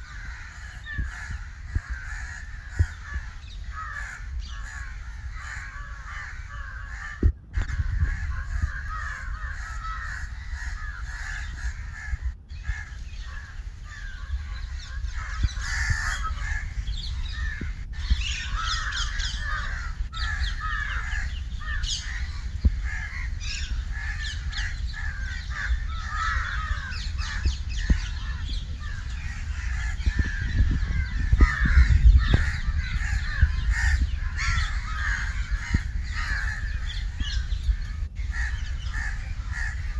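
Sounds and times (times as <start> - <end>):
crows cawing: 0.0 - 39.9.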